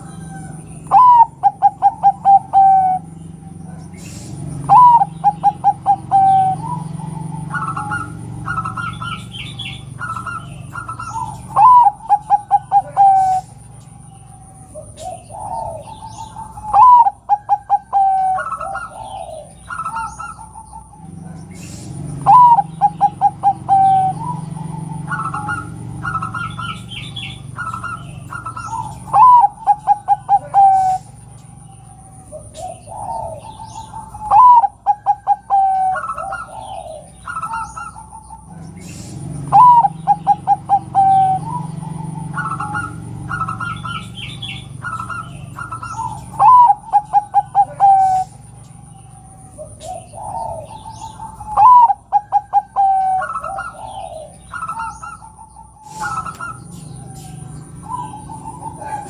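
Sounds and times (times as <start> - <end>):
higher-pitched bird call: 0.0 - 3.2, 4.0 - 21.0, 21.6 - 59.0
dove cooing: 0.0 - 59.0.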